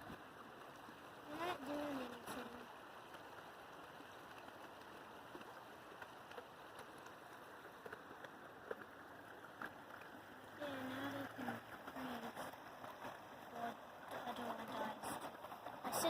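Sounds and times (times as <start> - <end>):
brook running: 0.0 - 16.0.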